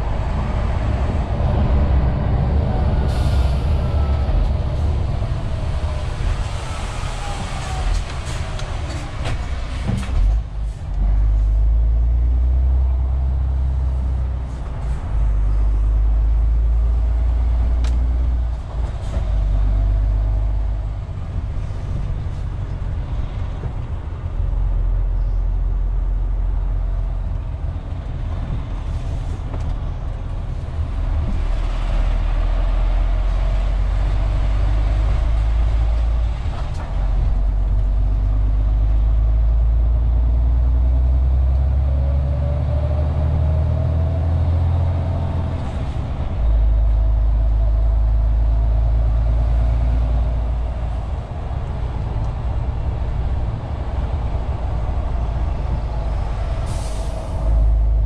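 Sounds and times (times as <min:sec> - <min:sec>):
truck engine rumble from cab: 0:00.0 - 0:58.0.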